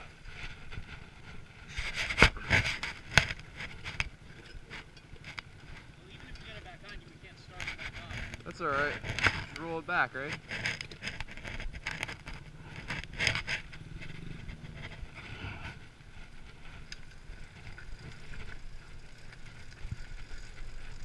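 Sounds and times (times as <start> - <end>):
footsteps: 0.0 - 16.9
tyres rolling over asphalt: 0.0 - 21.0.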